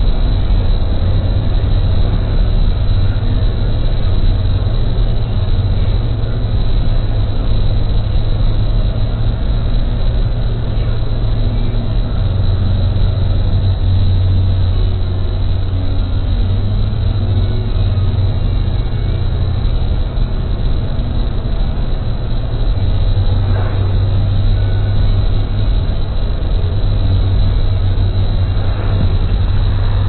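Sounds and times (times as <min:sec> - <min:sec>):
car cabin engine and road rumble: 0:00.0 - 0:30.0.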